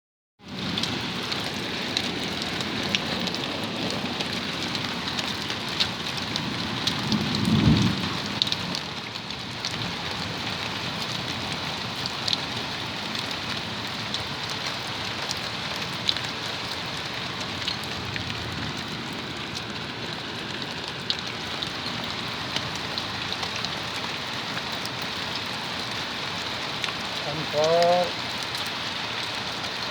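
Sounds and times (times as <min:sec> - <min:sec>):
rain falling: 0:00.4 - 0:29.9.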